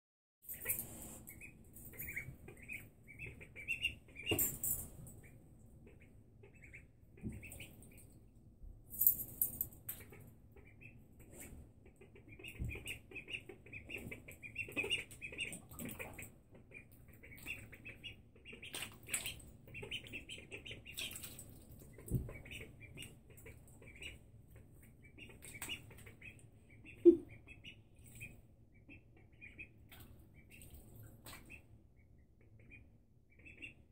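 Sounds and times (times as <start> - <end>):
ducklings peeping: 0.5 - 4.4, 5.2 - 8.2, 10.0 - 33.9.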